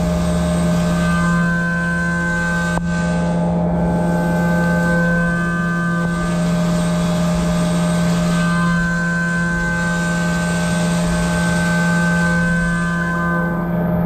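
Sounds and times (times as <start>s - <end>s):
mill cutting metal hum: 0.0s - 14.0s.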